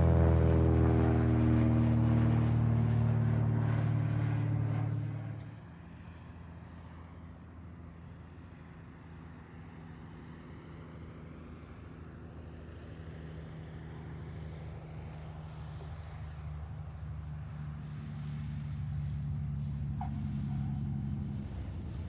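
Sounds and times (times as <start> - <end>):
engine hum: 0.0 - 22.0.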